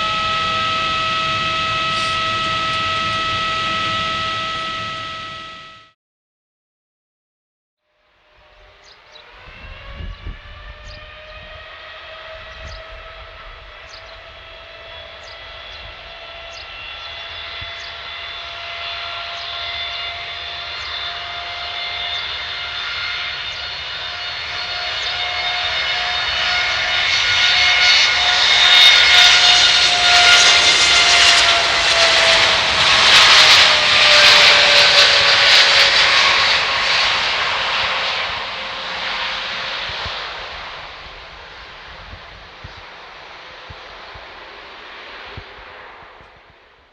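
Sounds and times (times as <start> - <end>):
jet engine whine: 0.0 - 6.0, 8.0 - 46.9.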